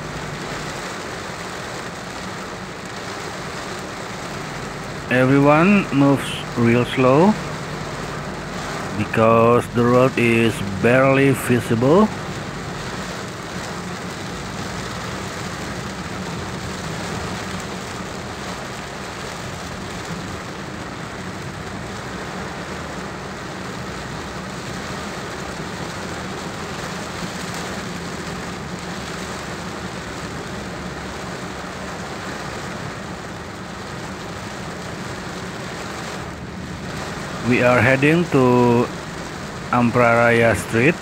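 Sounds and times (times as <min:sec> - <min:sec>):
heavy rain on car windshield: 0:00.0 - 0:41.0
moving car hum: 0:00.0 - 0:41.0.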